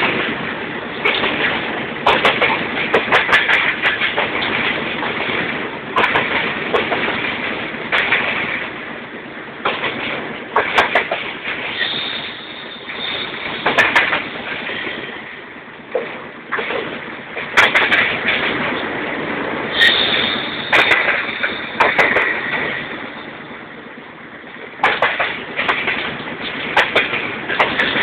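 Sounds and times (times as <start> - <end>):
train wheels clattering over rail joints: 0.0 - 8.8, 9.6 - 23.3, 24.5 - 28.0
train rumble: 0.0 - 28.0.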